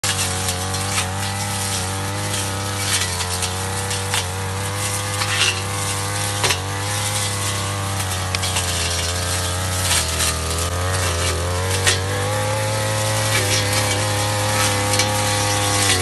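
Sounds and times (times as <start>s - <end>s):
brush cutter running: 0.0s - 16.0s
stems snapping: 0.0s - 16.0s.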